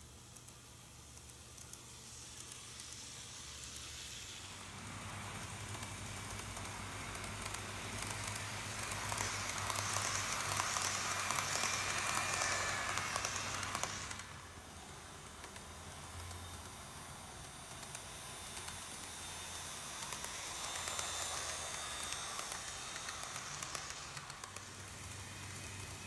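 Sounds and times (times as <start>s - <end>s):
faint motor whine: 0.0s - 26.0s
model train rolling rattle: 0.0s - 26.0s.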